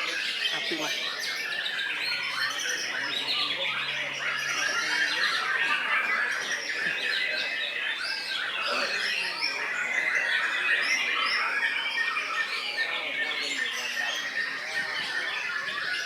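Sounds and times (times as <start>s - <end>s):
birds singing whistles and chirps: 0.0s - 16.0s.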